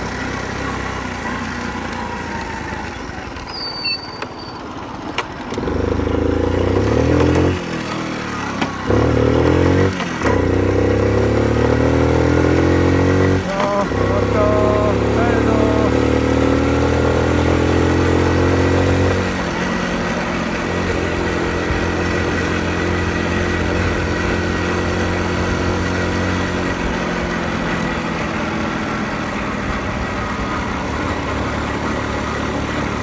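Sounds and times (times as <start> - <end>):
small motorcycle engine running: 0.0 - 33.0.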